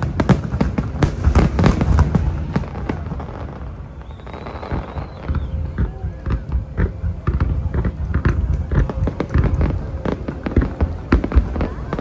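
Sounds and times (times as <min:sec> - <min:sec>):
fireworks bangs and crackles: 0:00.0 - 0:12.0
people's voices: 0:00.0 - 0:12.0.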